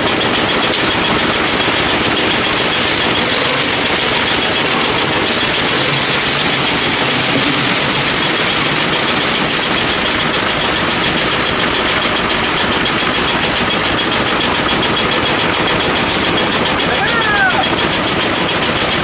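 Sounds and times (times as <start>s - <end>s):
heavy machine engine rattling: 0.0s - 19.0s.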